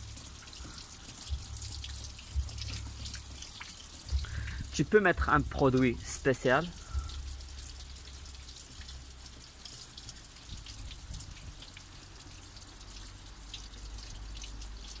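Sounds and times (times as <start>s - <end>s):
steady low hum: 0.0s - 12.6s
light water drips: 0.0s - 15.0s
water trickling into tank: 0.0s - 15.0s.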